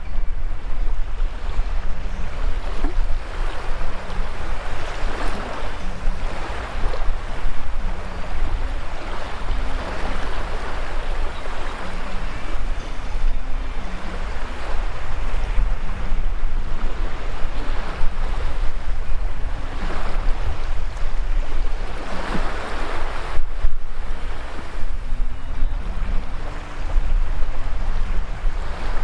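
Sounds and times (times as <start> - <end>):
waves washing over sand: 0.0 - 29.0
wind buffeting microphone: 0.0 - 29.0.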